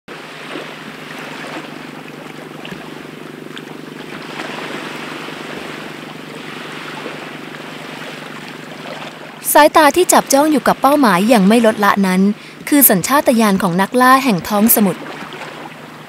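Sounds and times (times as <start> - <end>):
steady low hum: 0.1 - 16.0
waves washing: 0.1 - 16.0
wind: 0.1 - 16.0.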